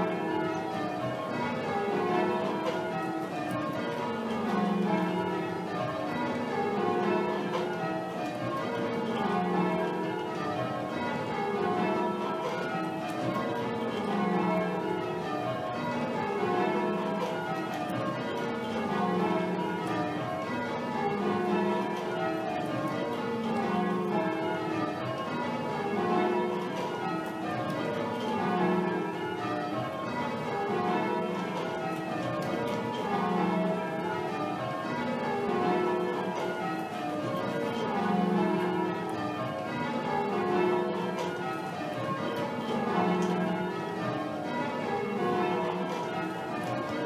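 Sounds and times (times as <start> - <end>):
church bells change ringing: 0.0 - 47.0.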